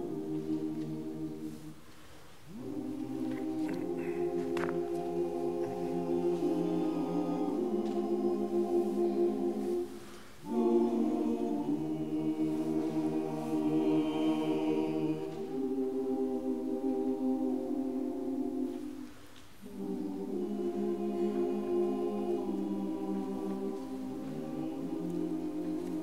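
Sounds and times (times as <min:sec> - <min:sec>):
choir singing held chords: 0:00.0 - 0:26.0.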